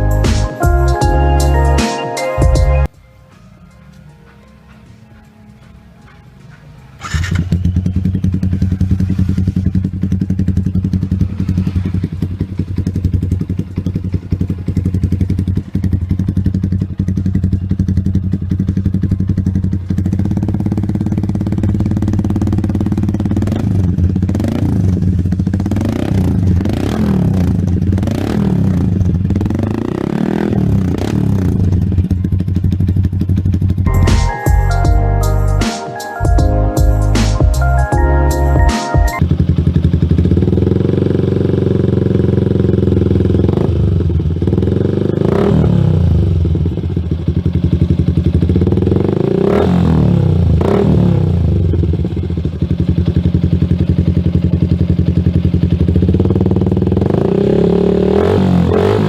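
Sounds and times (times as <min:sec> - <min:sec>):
motorcycle engine idling and revving: 0:00.0 - 0:01.8, 0:03.8 - 0:35.6, 0:36.2 - 0:59.0.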